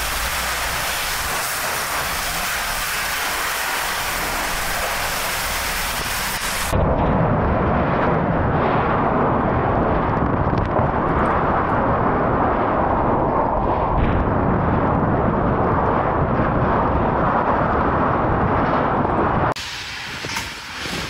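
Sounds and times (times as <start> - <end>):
strong wind rushing: 0.0 - 21.0.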